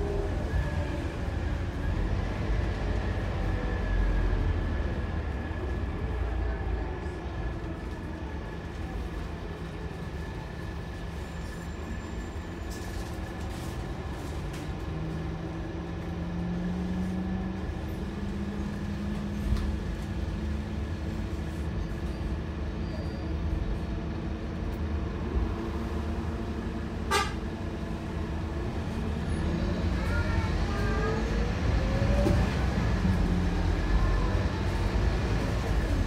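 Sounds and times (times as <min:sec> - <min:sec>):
bus engine rumble and whine: 0:00.0 - 0:36.0.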